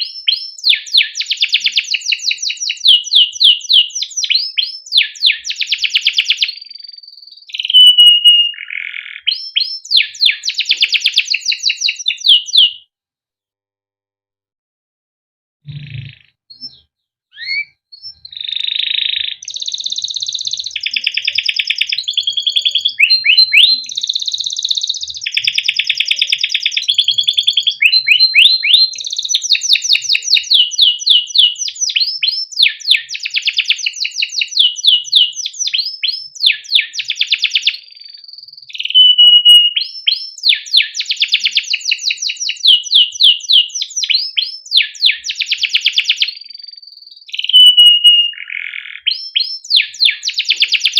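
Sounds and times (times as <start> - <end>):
canary singing trills: 0.0 - 12.9, 15.7 - 50.9.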